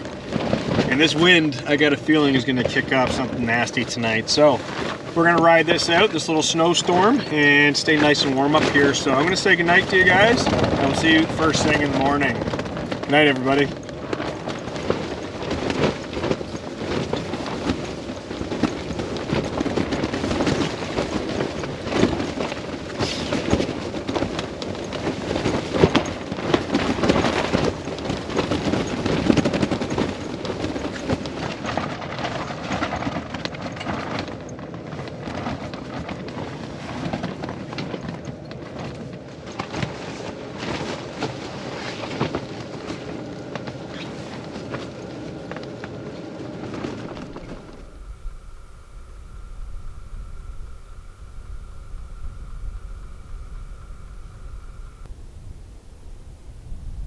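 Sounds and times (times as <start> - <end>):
tent fabric flapping in wind: 0.0 - 57.0.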